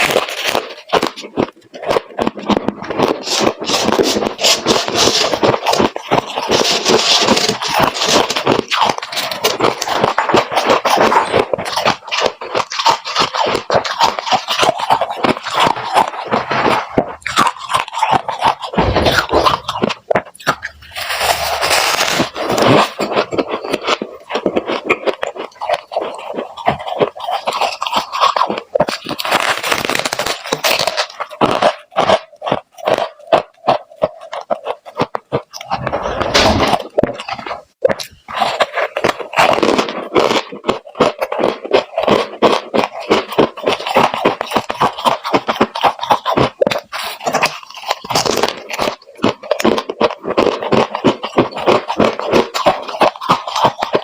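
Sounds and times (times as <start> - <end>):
frost being chewed: 0.0 - 54.0.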